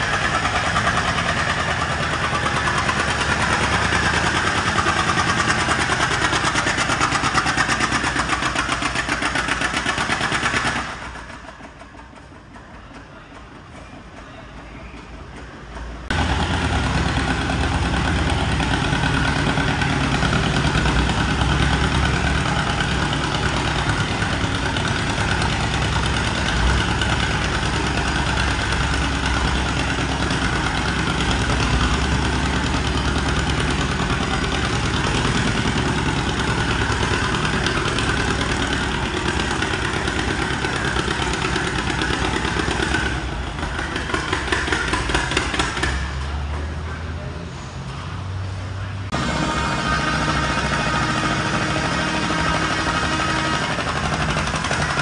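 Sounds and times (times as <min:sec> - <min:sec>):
tractor engine running under load: 0:00.0 - 0:47.3, 0:48.0 - 0:55.0.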